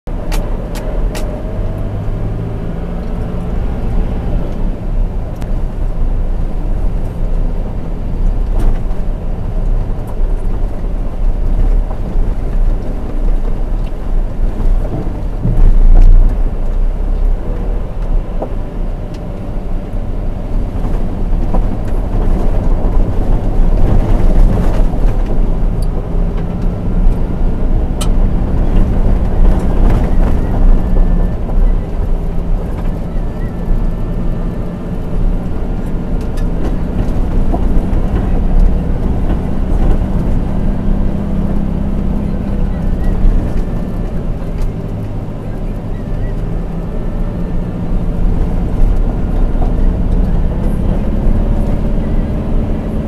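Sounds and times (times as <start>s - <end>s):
engine running low: 0.1s - 53.0s
tyre and suspension noise: 0.1s - 53.0s
wheels rumbling over timber bridge: 0.1s - 53.0s.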